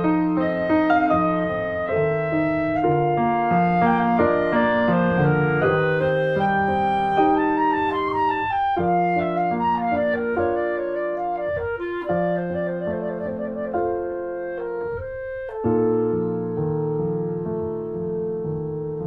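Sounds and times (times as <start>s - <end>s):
instrumental music with held notes: 0.0s - 19.0s.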